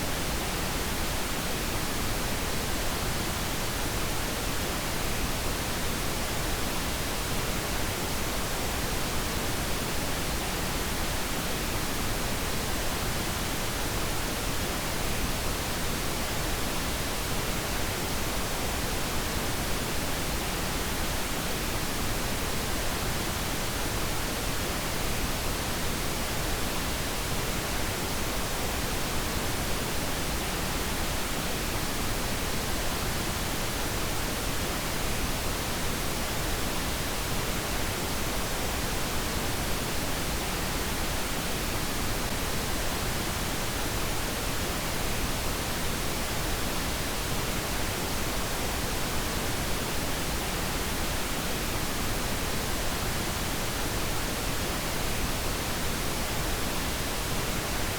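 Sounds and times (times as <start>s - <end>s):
steady pink noise hiss: 0.0s - 57.9s.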